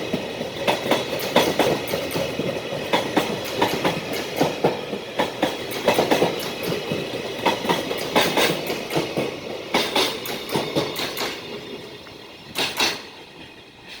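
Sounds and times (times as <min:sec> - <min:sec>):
freight train wagons rolling past: 0:00.0 - 0:14.0
wheels clicking over rail joints: 0:00.0 - 0:14.0.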